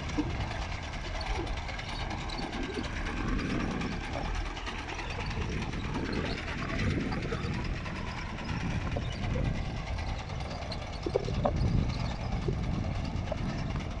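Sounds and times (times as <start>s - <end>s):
tractor engine rumbling: 0.0s - 14.0s.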